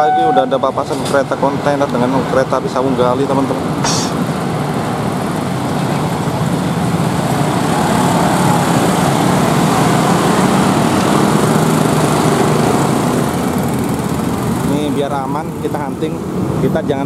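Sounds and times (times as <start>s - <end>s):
motorcycles and scooters accelerating: 1.5s - 16.9s.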